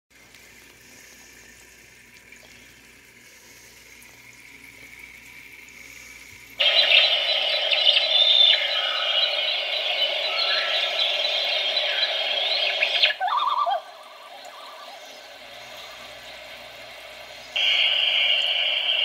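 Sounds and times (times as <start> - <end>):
recorded nature soundscape: 0.1 - 19.0
trickling water: 0.1 - 19.0.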